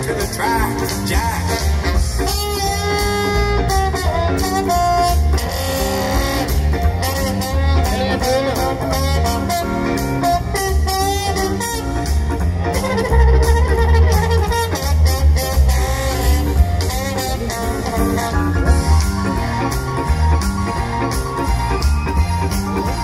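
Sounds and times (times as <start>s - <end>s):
bass line: 0.0s - 23.0s
instrumental guitar music: 0.0s - 23.0s.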